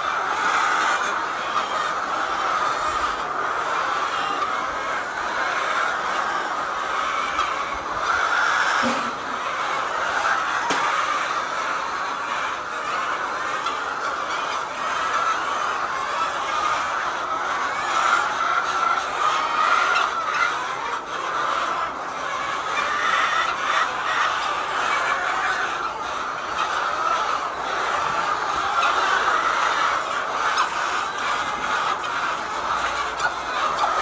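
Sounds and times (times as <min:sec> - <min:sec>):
hens clucking din: 0:00.0 - 0:34.0.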